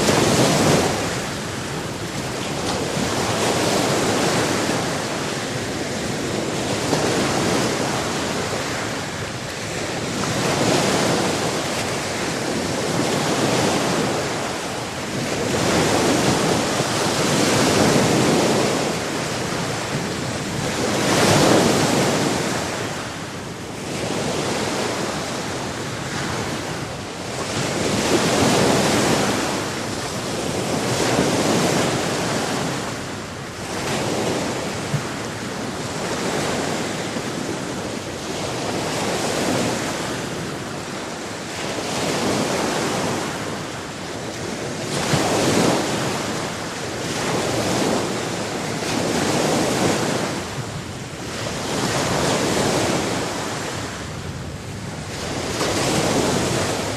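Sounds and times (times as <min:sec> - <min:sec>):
sea waves on a shore: 0:00.0 - 0:56.9.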